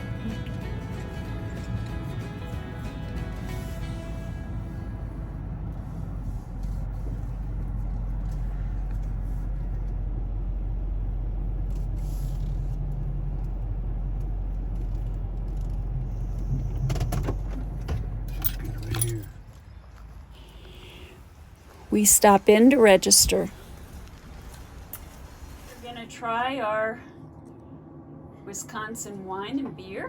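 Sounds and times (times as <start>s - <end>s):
pickup truck engine rumbling: 0.0s - 25.7s.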